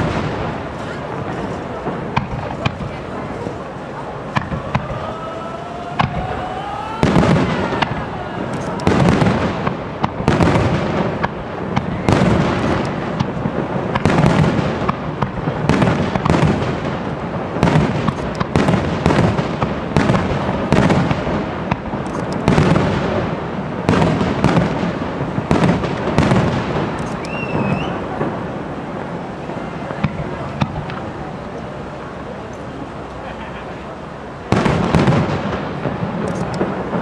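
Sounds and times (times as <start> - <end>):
firework crackling: 0.0 - 37.0.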